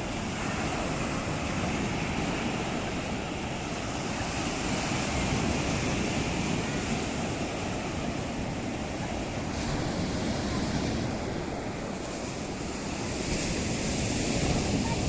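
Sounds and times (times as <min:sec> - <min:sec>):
waves breaking on shore: 0:00.0 - 0:15.0.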